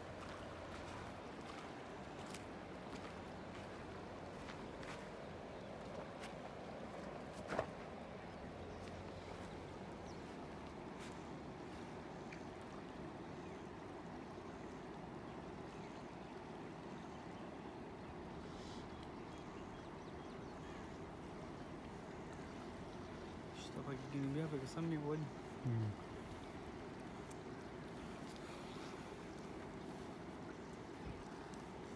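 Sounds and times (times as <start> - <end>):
faint steady background noise: 0.0 - 31.9.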